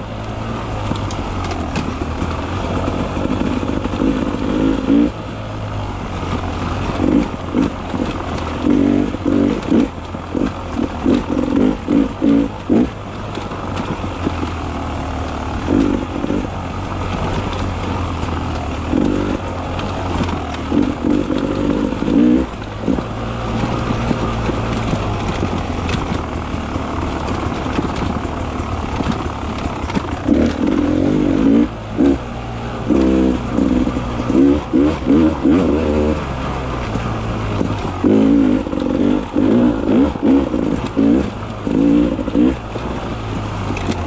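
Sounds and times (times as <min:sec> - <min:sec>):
two-stroke motorcycle engine revving: 0:00.0 - 0:44.0.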